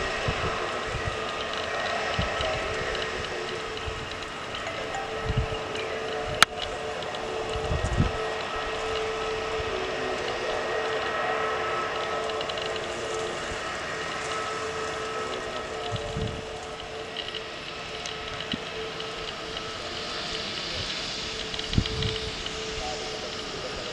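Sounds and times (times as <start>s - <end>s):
jet engines whining: 0.0s - 23.9s
wind on microphone: 0.0s - 23.9s.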